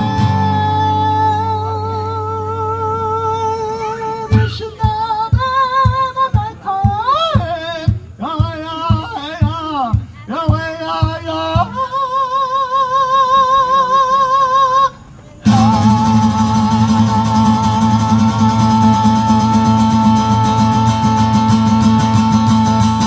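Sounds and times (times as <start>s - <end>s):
acoustic guitar: 0.0s - 23.0s
man singing: 0.0s - 23.0s.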